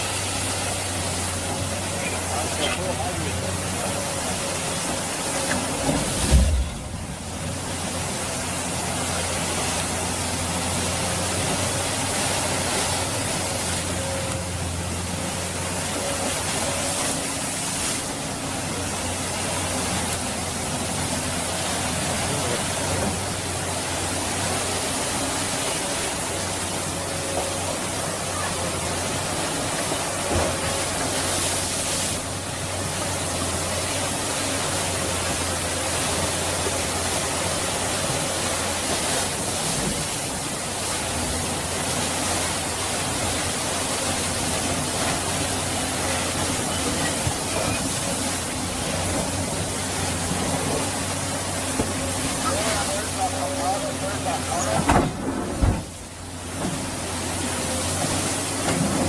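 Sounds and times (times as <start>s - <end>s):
diesel engine low hum: 0.0s - 59.0s
floodwater rushing: 0.0s - 59.0s.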